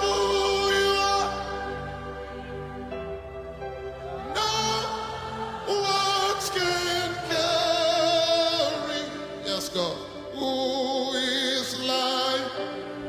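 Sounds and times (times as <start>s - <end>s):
soft instrumental backing: 0.0s - 13.0s.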